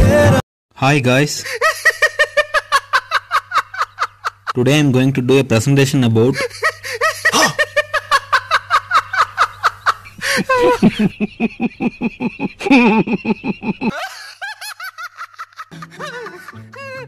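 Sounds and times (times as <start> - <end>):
man laughing hard: 1.4 - 4.6, 6.3 - 17.0.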